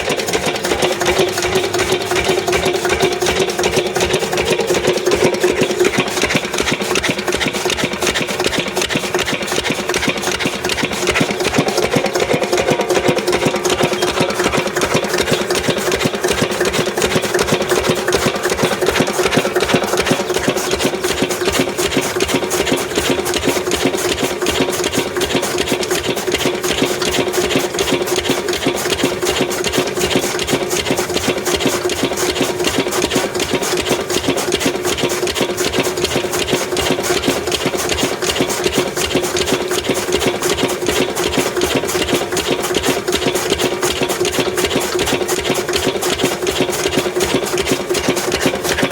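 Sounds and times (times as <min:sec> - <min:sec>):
chaff cutter clattering: 0:00.0 - 0:48.9
diesel engine running: 0:00.0 - 0:48.9.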